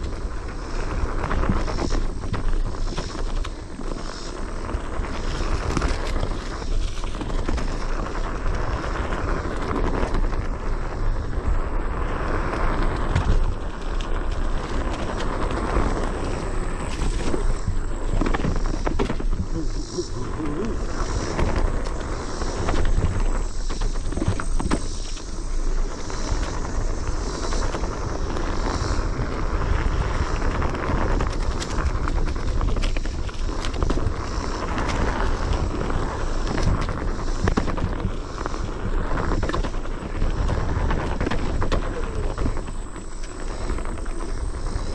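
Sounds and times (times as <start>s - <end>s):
wheel rumbling on dirt trail: 0.0s - 44.9s.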